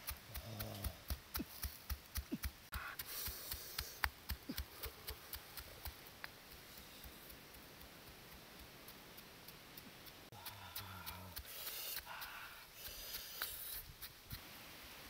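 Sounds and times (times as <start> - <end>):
faint ticks: 0.0 - 14.4.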